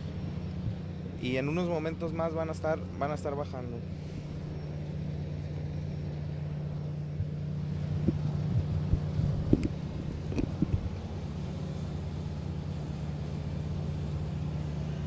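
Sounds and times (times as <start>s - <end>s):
ship engine drone: 0.0s - 15.0s.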